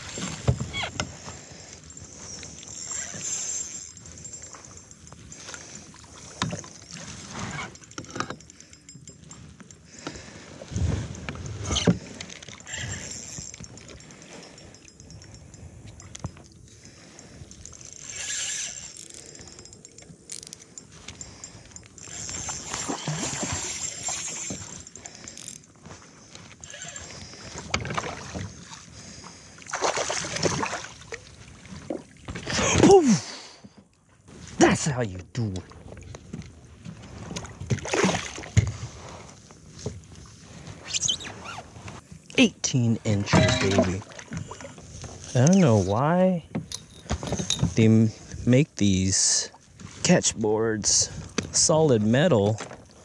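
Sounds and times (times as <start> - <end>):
water splashing and sloshing: 0.0 - 42.4, 43.1 - 48.4, 49.1 - 53.0.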